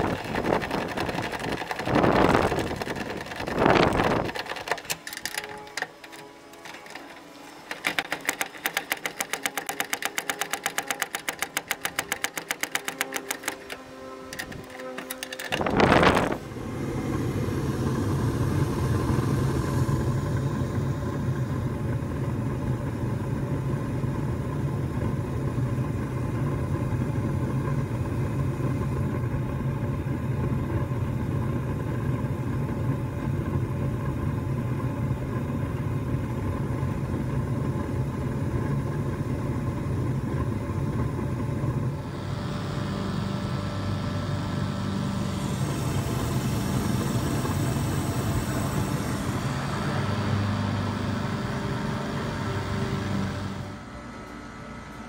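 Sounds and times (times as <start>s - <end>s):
gas furnace humming: 0.0s - 55.0s.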